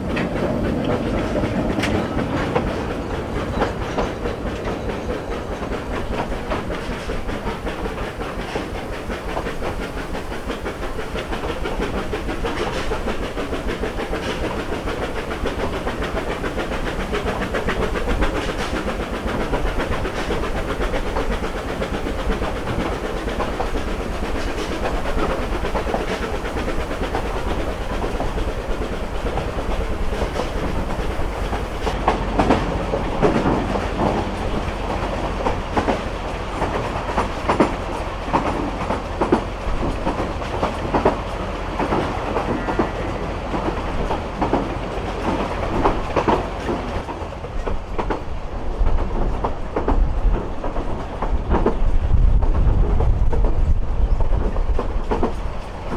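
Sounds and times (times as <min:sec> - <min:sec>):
steam train running: 0:00.0 - 0:55.9
wheels clicking over rail joints: 0:00.0 - 0:55.9.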